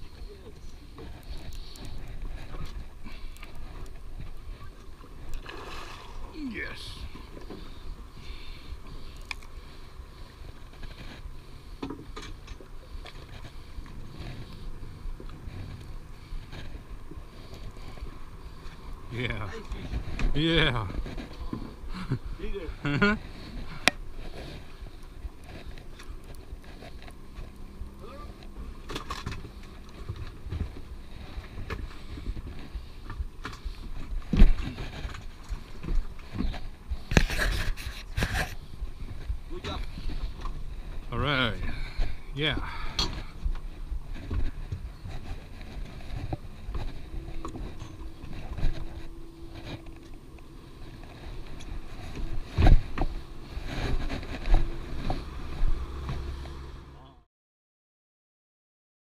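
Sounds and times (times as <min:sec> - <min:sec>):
wind rumble on microphone: 0:00.0 - 0:57.0
faint steady hum: 0:00.0 - 0:57.2.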